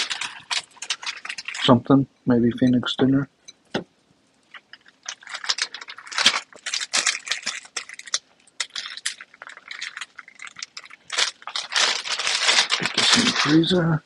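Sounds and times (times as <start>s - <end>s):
plastic bag crinkling: 0.0s - 1.8s, 4.4s - 14.0s.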